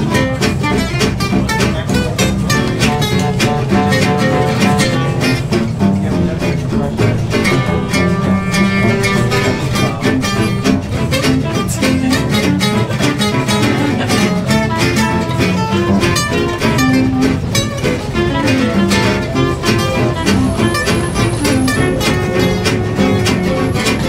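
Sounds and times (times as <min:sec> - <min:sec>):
acoustic guitars strumming: 0:00.0 - 0:24.0
upright bass: 0:00.0 - 0:24.0
clarinet melody: 0:02.0 - 0:24.0.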